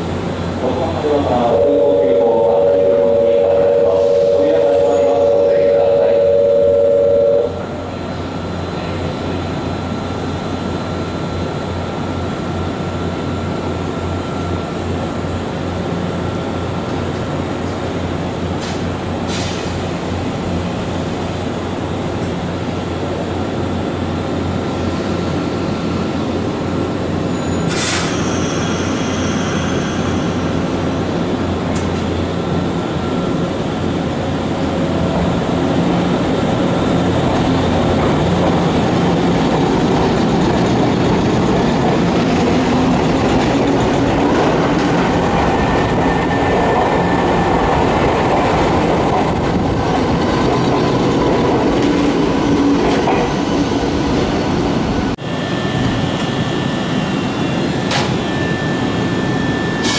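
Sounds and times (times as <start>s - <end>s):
standing train humming: 0.0s - 59.9s
train moving along platform: 0.0s - 59.9s.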